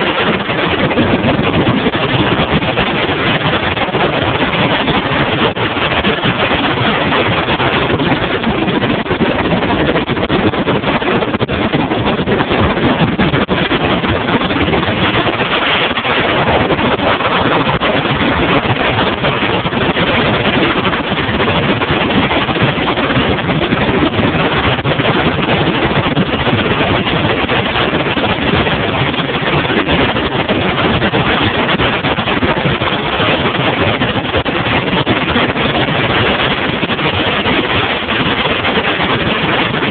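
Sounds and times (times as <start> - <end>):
boat engine: 0.0 - 39.9
hull slapping water: 0.0 - 39.9
wind noise: 0.0 - 39.9.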